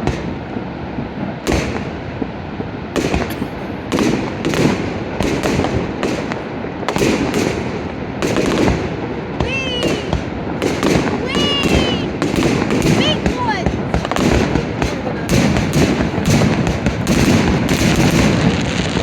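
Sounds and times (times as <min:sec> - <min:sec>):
continuous rumble: 0:00.0 - 0:19.0
fireworks booming and crackling: 0:00.0 - 0:19.0.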